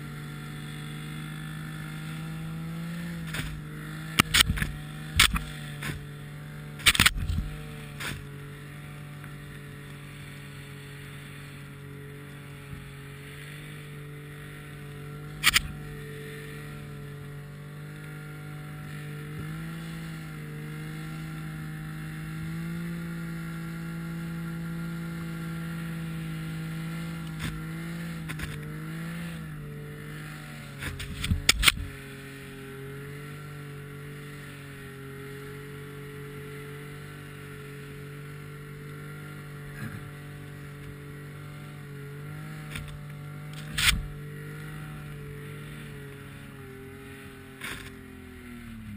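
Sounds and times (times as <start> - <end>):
snow vehicle engine running: 0.0 - 48.9.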